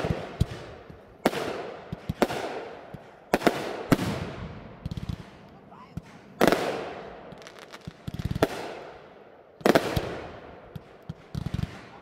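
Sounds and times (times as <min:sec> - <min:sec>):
firework crackling pops: 0:00.0 - 0:09.0, 0:09.6 - 0:12.0
firework bangs with echo: 0:00.0 - 0:12.0.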